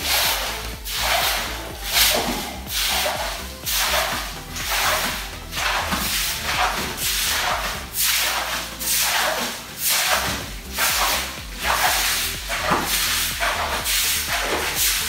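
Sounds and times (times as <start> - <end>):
broom swishing water on concrete: 0.0 - 15.0.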